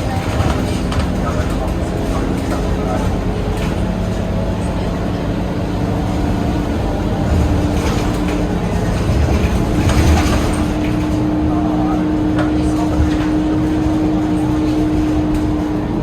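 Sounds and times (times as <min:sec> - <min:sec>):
bus diesel engine droning: 0:00.0 - 0:16.0
road rumble: 0:00.0 - 0:16.0.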